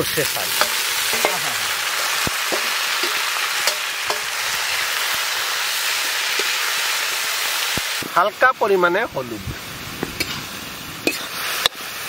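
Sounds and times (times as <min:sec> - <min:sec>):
greens sizzling in hot oil: 0:00.0 - 0:12.0.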